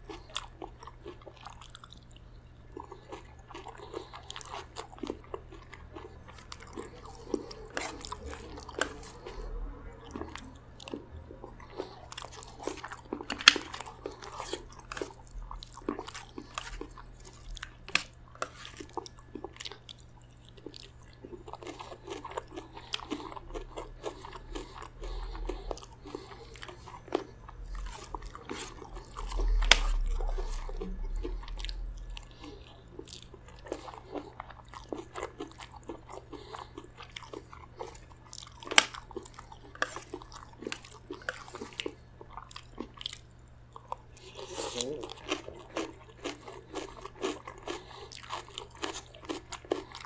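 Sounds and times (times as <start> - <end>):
chewing with crunches: 0.0 - 50.0.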